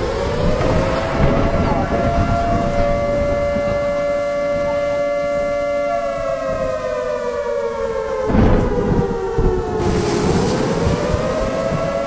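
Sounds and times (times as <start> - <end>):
low rumbling noise: 0.0 - 7.1, 8.0 - 12.0
siren-like howling tone: 0.0 - 12.0.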